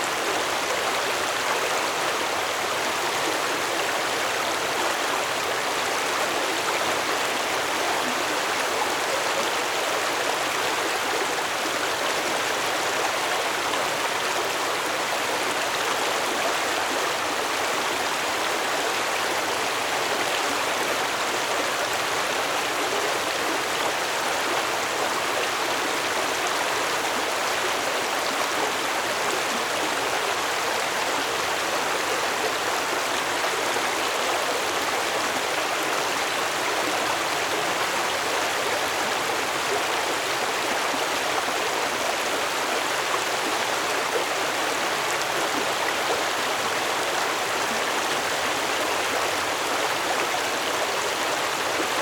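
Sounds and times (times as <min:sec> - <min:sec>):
stream water rushing and babbling: 0:00.0 - 0:52.0.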